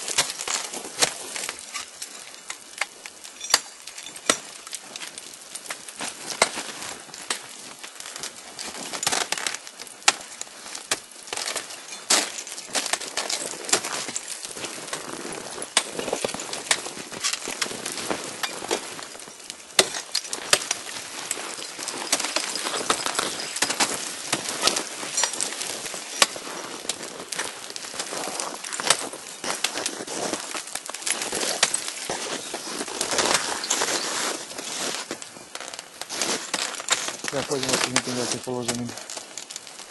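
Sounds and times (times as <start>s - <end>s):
ice axe striking ice: 0.0s - 39.9s
ice breaking and crackling: 0.0s - 39.9s.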